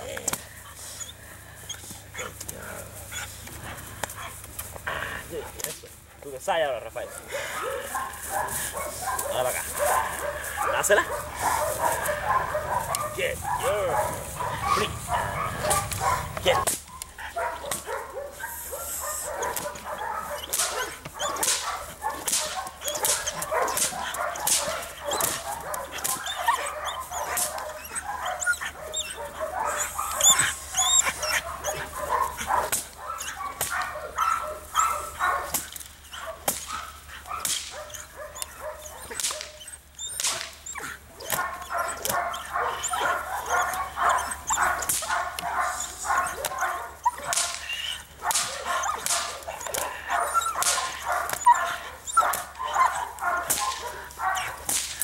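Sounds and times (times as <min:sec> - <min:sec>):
dog barking rapidly: 0:06.5 - 0:55.0
dog whining: 0:08.7 - 0:54.6.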